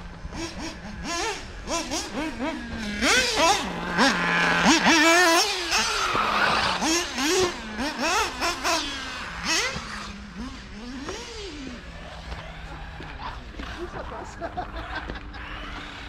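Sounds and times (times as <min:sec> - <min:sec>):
model car engine revving: 0:00.0 - 0:16.0.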